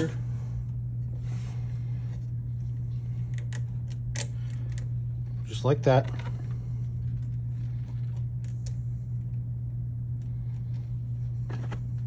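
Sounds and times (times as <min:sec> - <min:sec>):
steady low hum: 0:00.0 - 0:12.0
faint clicks and rustles of wires: 0:02.0 - 0:12.0.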